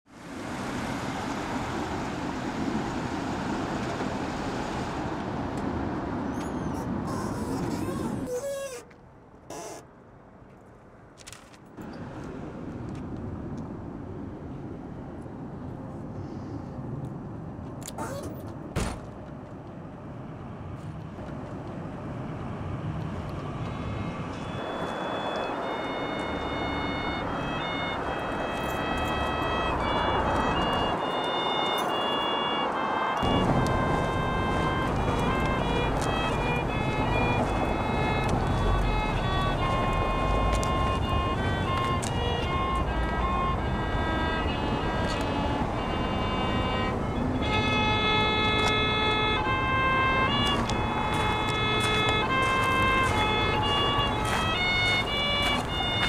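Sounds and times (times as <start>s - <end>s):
wind: 0.0s - 56.0s
traffic noise: 0.1s - 56.0s.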